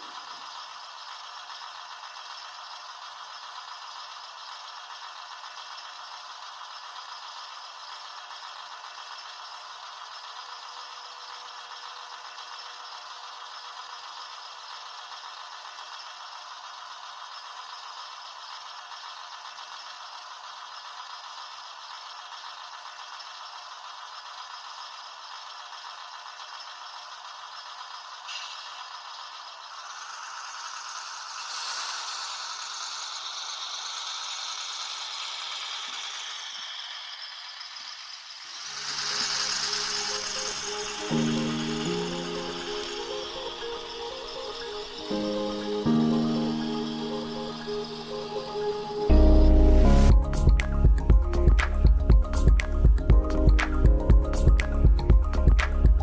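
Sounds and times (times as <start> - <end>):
model train motor running: 0.0 - 49.2.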